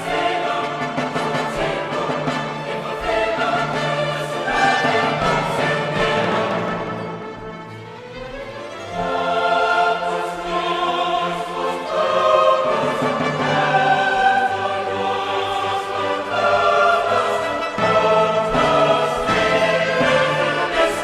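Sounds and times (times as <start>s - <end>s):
choir singing sustained notes: 0.0s - 21.0s
orchestra playing: 0.0s - 21.0s.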